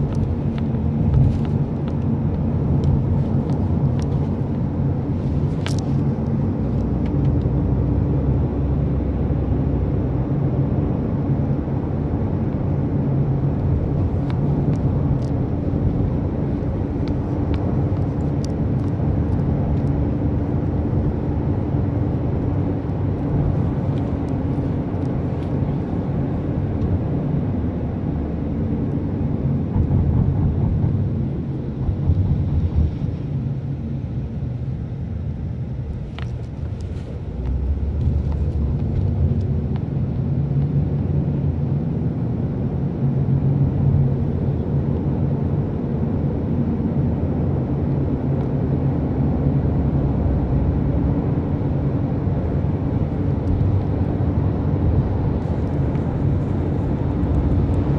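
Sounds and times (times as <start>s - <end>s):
car engine and tyres rumbling: 0.0s - 57.9s.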